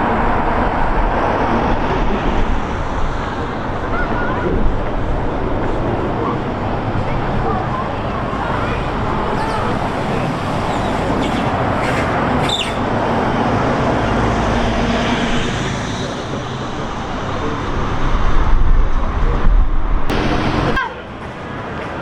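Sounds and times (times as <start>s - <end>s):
vehicle passing close: 0.0s - 18.6s
street traffic noise: 0.0s - 22.0s.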